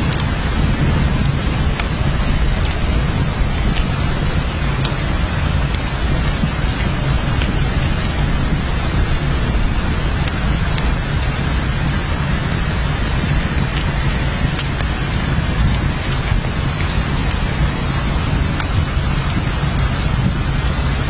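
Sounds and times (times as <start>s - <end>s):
deep low rumble: 0.0s - 20.9s
heavy rain: 0.0s - 21.0s
raindrop ticks: 0.0s - 21.0s.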